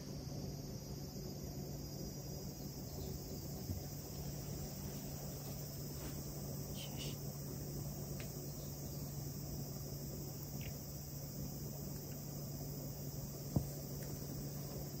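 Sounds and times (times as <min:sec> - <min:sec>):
insects chirring: 0:00.0 - 0:15.0
low steady hum: 0:00.0 - 0:15.0.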